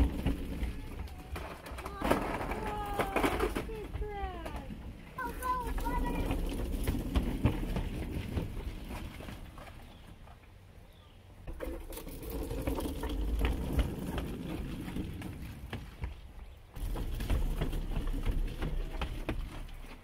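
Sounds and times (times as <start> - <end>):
running footsteps on boards: 0.0 - 10.2, 12.9 - 20.0
stroller wheels rolling on wood: 0.0 - 20.0.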